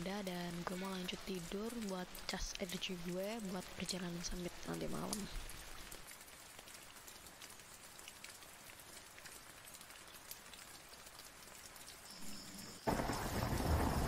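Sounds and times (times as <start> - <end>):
rain on nylon tarp: 0.0 - 14.0.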